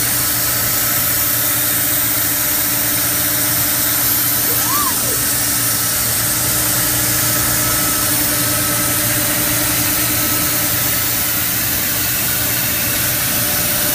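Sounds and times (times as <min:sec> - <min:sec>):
industrial machinery running: 0:00.0 - 0:13.9.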